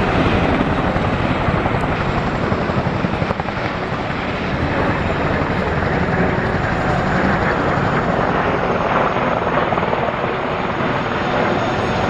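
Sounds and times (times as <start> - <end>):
aircraft engine: 0.0 - 12.0.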